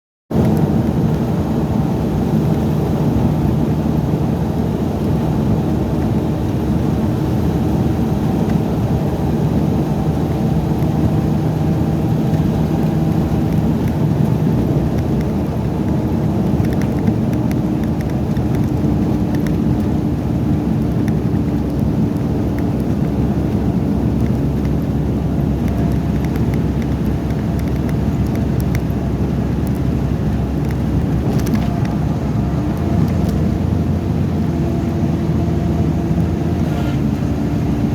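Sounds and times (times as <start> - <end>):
engines rumbling: 0.3 - 37.9.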